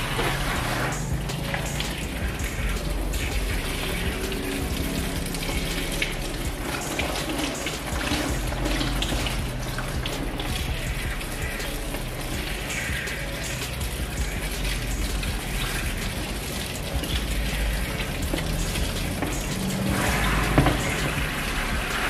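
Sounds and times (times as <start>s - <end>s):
shower sprayer running: 0.0s - 22.0s
water splashing into basin: 0.0s - 22.0s.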